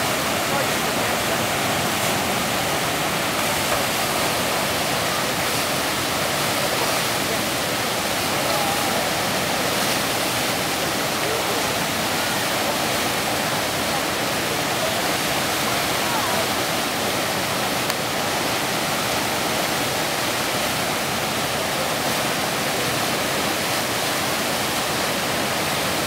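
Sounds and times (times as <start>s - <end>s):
rushing tidal rapids: 0.0s - 26.0s.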